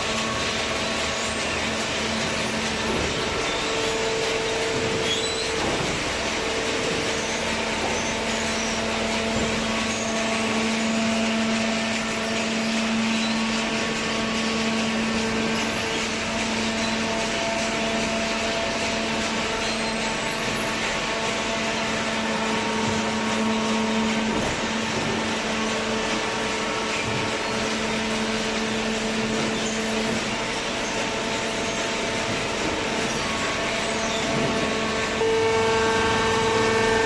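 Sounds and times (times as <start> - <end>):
hydraulic baler humming and whining: 0.0 - 37.0.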